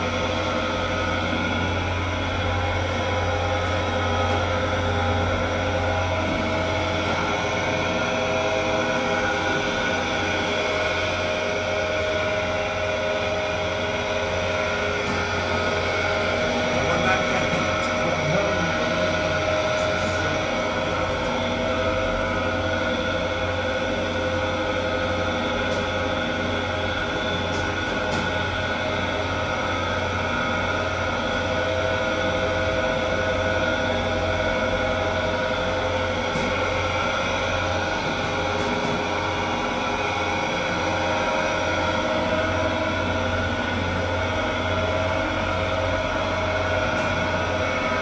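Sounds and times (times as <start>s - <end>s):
dough kneading machine motor hum: 0.0s - 48.0s.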